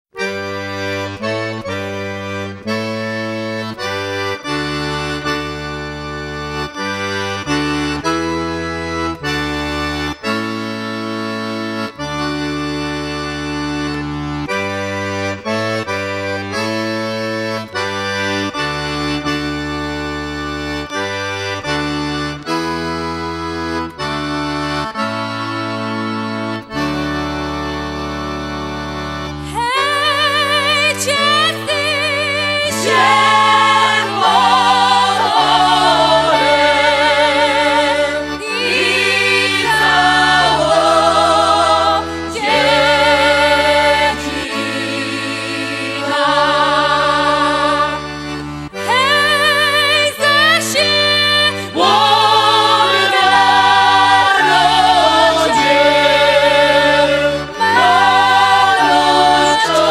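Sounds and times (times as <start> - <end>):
accordion playing carol tune: 0.0 - 59.9.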